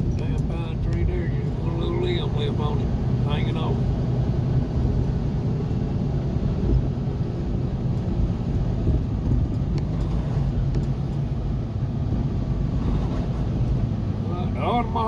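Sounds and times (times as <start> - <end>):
vehicle engine and tyre rumble: 0.0 - 15.0.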